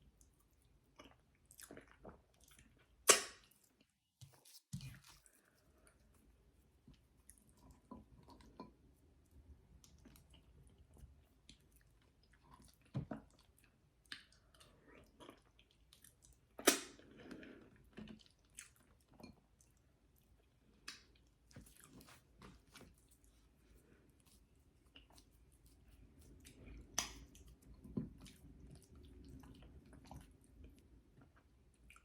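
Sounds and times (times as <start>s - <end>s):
person chewing food: 0.2s - 3.9s, 4.8s - 32.0s.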